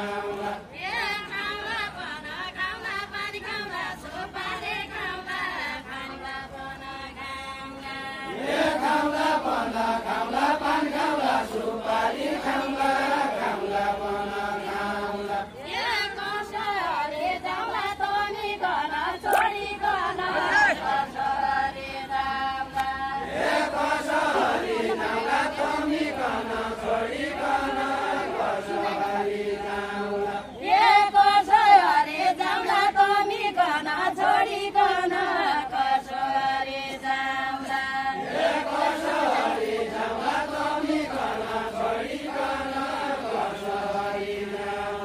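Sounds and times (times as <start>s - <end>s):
group singing unaccompanied: 0.0s - 45.0s.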